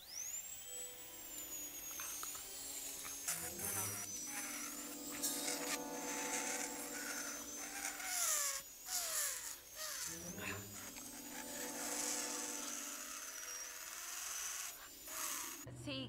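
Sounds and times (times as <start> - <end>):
dental drill whining: 0.0 - 15.7
steady low hum: 0.3 - 15.8
lower sliding tones: 0.4 - 15.6.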